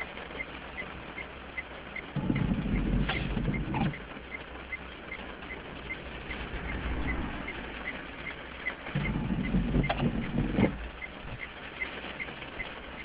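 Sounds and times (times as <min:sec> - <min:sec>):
faint even ticking: 0:00.0 - 0:13.0
low rumble inside car: 0:00.0 - 0:13.0
windscreen wiper motor hum: 0:00.0 - 0:13.0.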